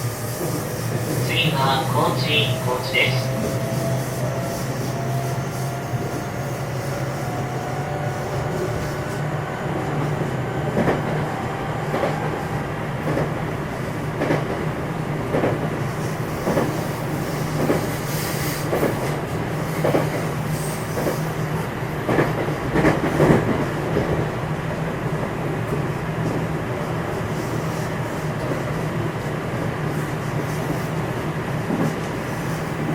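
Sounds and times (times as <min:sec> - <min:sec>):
low train running hum: 0:00.0 - 0:32.9.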